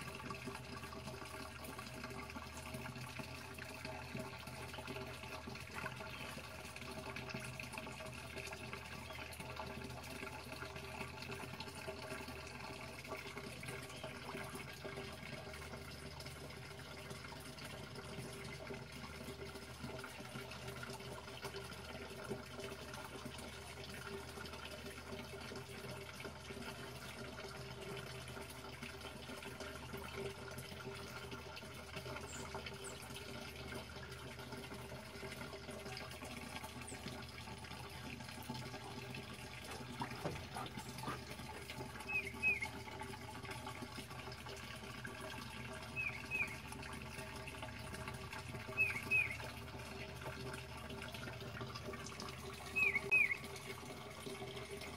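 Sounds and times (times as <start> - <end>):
water trickling in pond: 0.0 - 54.9.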